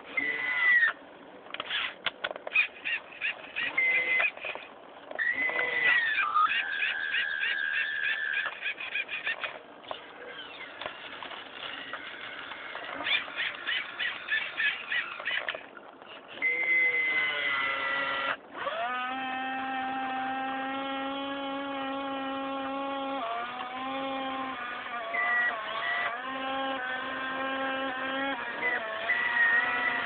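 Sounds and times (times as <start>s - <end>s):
electric motor whine: 0.0s - 1.0s, 2.6s - 15.7s, 16.3s - 30.0s
rhythmic motor squeaks: 0.0s - 1.0s, 1.6s - 30.0s.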